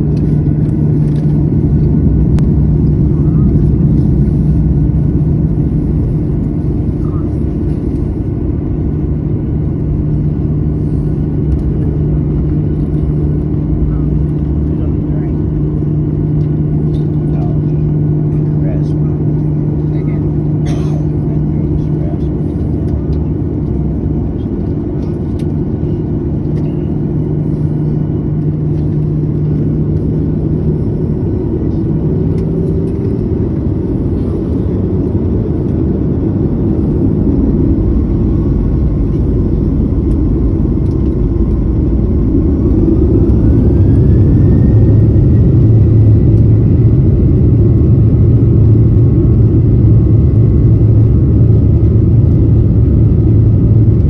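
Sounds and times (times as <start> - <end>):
jet engine whine rising: 0.0 - 54.0
jet engines rumbling in cabin: 0.0 - 54.0.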